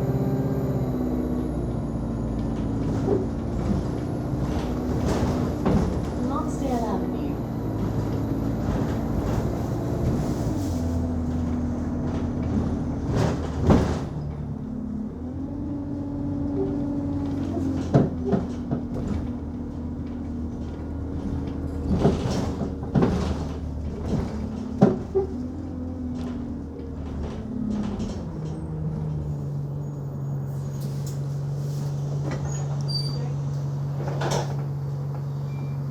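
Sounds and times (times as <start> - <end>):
bus engine humming: 0.0 - 35.9.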